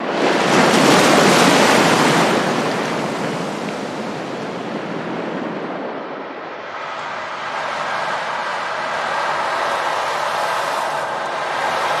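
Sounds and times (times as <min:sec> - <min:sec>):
ocean waves washing in: 0:00.0 - 0:12.0.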